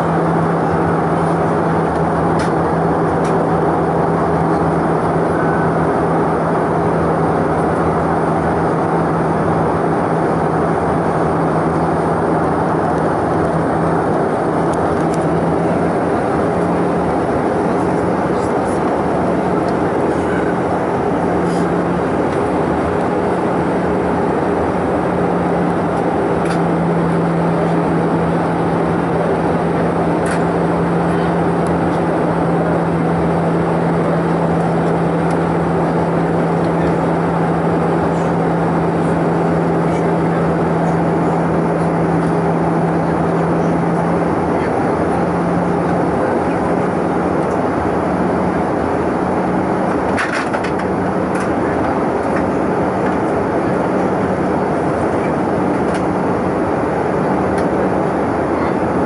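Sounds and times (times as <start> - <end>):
jet engine and airflow rush: 0.0 - 59.0.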